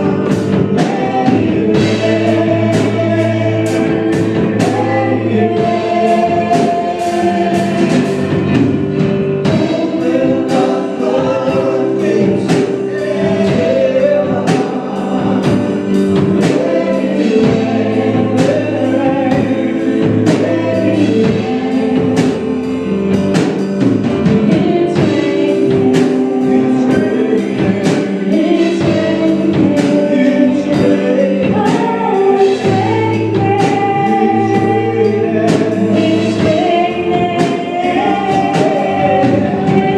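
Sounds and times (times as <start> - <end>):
choir singing in harmony: 0.0 - 39.9
drums keeping a steady beat: 0.0 - 39.9
live band playing: 0.0 - 39.9.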